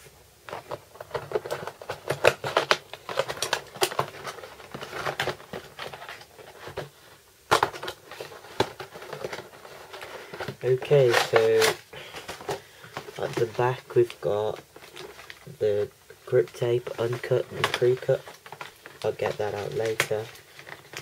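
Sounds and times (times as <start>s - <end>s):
plastic bag crinkling: 0.6s - 21.0s.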